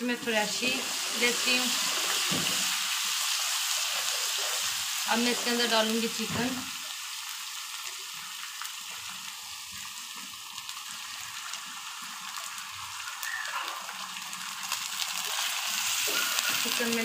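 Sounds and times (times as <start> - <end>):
oil sizzling with onions: 0.0 - 17.0.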